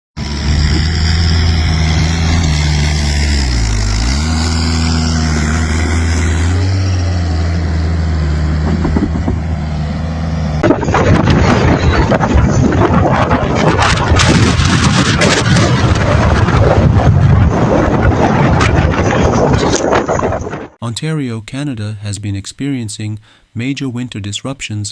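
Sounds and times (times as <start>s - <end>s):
rough rushing noise: 0.2s - 20.8s
vehicle engine running: 0.2s - 20.8s.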